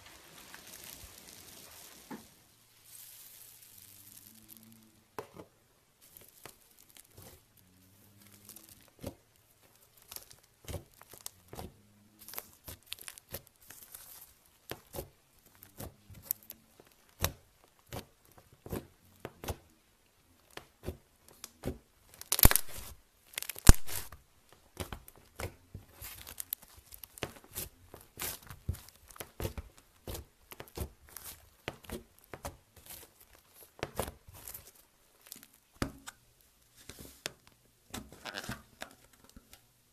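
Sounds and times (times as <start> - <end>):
foam bead slime crackling: 0.0 - 39.6.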